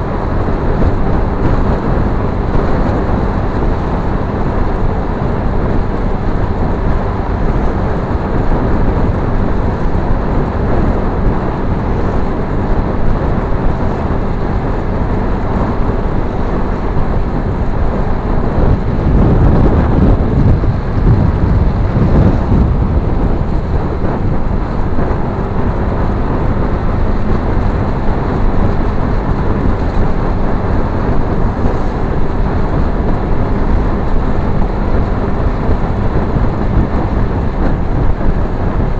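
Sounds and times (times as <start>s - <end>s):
motorcycle running and road noise: 0.0s - 38.9s
wind buffeting microphone: 0.0s - 38.9s.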